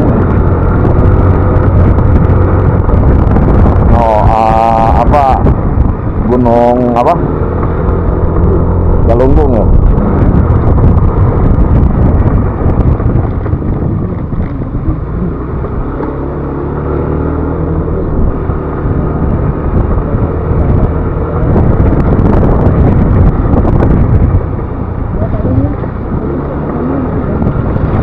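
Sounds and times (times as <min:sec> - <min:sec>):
scooter engine drone: 0:00.0 - 0:28.0
wind rumble on microphone: 0:00.0 - 0:28.0.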